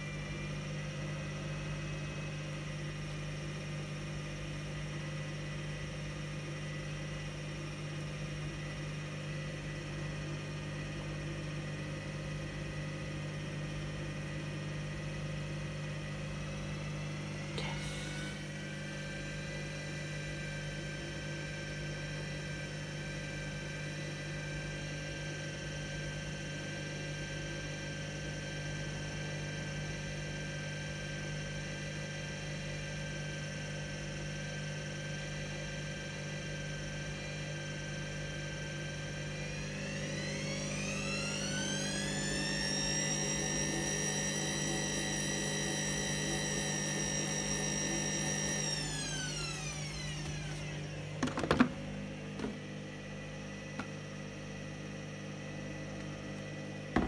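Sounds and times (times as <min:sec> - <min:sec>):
motor whine: 0:00.0 - 0:30.1, 0:35.0 - 0:57.0
washing machine hum: 0:00.0 - 0:33.0, 0:33.9 - 0:57.0.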